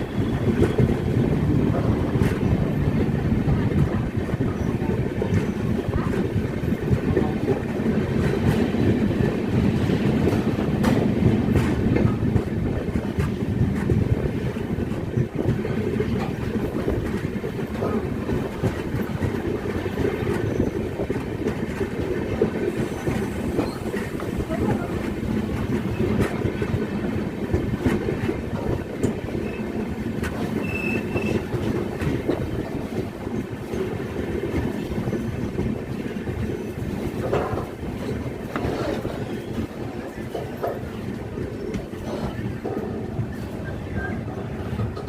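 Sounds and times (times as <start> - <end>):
light clicks of train wheels: 0.0 - 45.0
train wheels rumbling on rails: 0.0 - 45.0.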